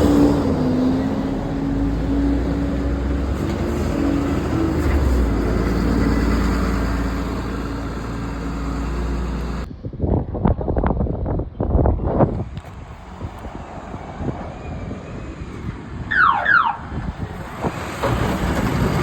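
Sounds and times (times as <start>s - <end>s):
bus engine running: 0.0s - 9.7s, 12.4s - 19.0s
road noise: 0.0s - 19.0s.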